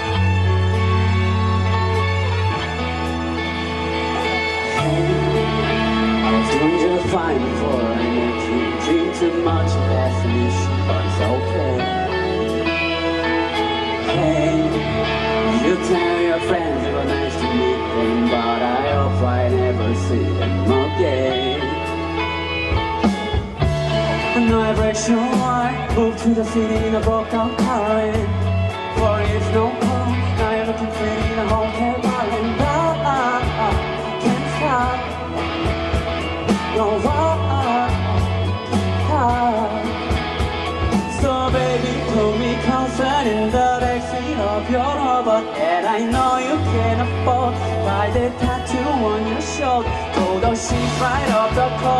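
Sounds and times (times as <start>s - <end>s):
drum kit beat: 0.0s - 18.5s, 20.6s - 51.9s
bass guitar: 0.0s - 51.9s
electric guitars: 0.0s - 51.9s
singer singing: 0.0s - 51.9s.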